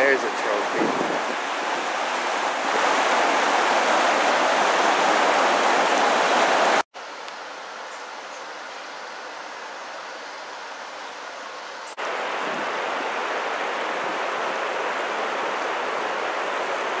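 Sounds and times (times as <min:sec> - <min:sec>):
river water rushing: 0:00.0 - 0:06.8, 0:09.2 - 0:17.0.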